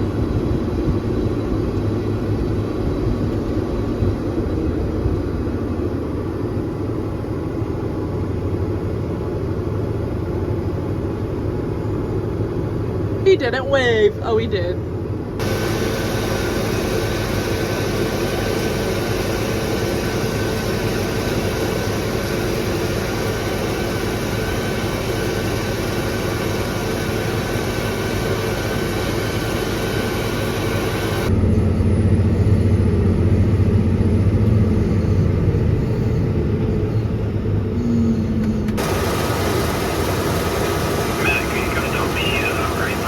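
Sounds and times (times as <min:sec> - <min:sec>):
machinery engine drone: 0:00.0 - 0:43.0.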